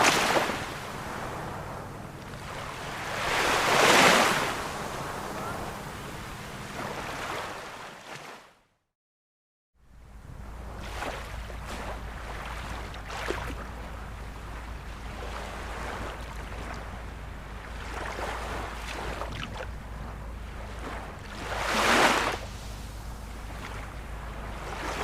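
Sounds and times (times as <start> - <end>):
wind rumble on microphone: 0.0 - 7.6, 9.9 - 25.0
ocean waves breaking: 0.0 - 8.6, 10.0 - 25.0.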